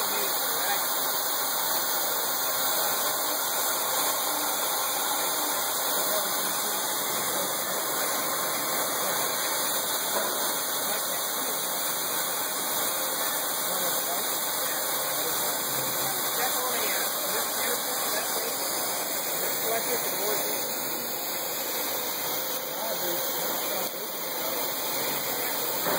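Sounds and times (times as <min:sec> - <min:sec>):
milling machine cutting metal: 0:00.0 - 0:25.9.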